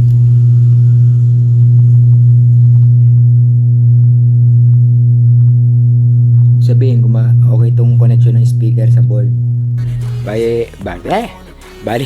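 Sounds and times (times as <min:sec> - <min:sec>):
speaker low hum: 0:00.0 - 0:12.0.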